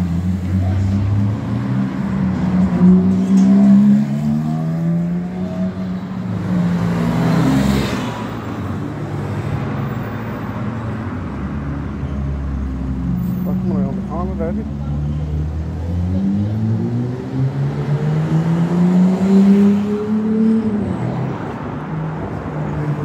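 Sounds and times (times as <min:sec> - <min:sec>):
sports cars driving past: 0:00.0 - 0:23.0.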